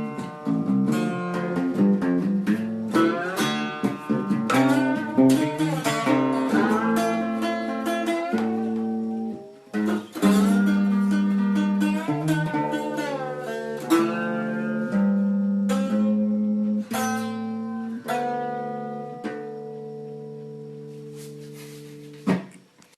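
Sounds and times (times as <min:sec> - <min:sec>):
guitar playing plucked notes: 0:00.0 - 0:22.9.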